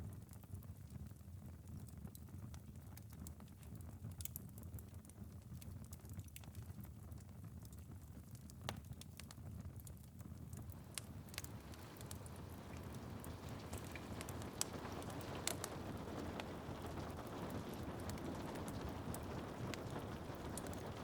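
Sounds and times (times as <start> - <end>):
wood fire crackling and popping: 0.0 - 21.0
rain dripping on a window: 0.1 - 21.0.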